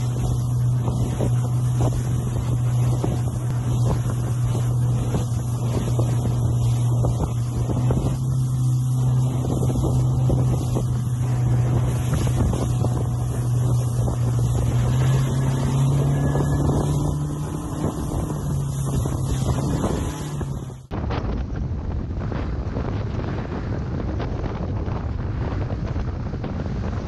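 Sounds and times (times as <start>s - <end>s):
outboard motor droning: 0.0s - 27.0s
water rushing past hull: 0.0s - 27.0s
wind buffeting microphone: 0.0s - 27.0s.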